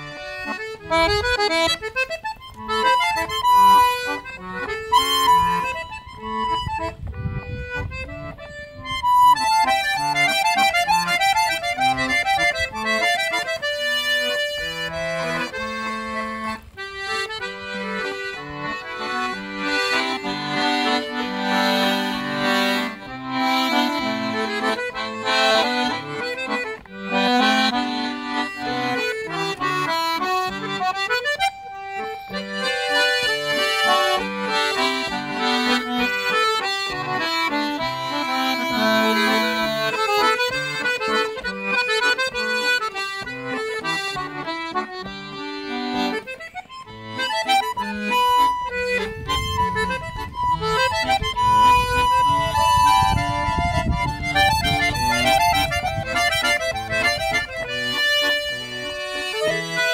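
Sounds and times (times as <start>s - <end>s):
accordions playing a tune: 0.0s - 59.9s.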